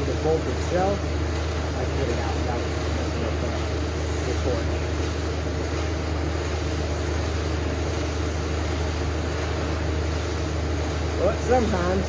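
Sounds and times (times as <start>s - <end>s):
shop equipment humming: 0.0s - 12.0s.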